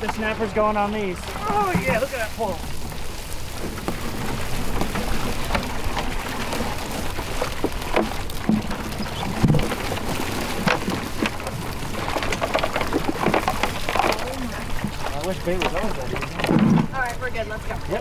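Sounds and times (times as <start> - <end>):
water streaming and dripping: 0.0 - 18.0
small fish flipping and splashing: 1.2 - 17.3.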